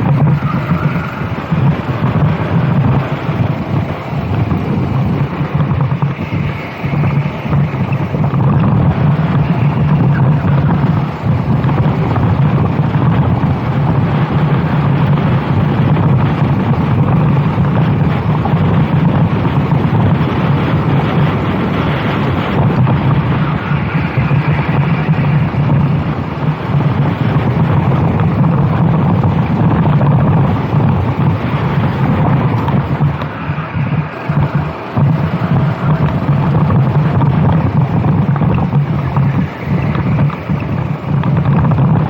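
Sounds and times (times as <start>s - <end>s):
kart engine running hard: 0.0s - 42.0s
wind buffeting microphone: 0.0s - 42.0s.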